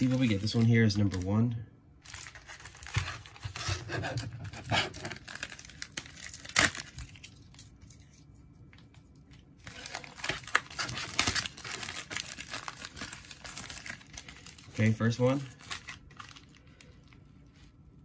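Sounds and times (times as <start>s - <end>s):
plastic mailer crinkling: 0.0s - 8.2s, 8.8s - 17.8s.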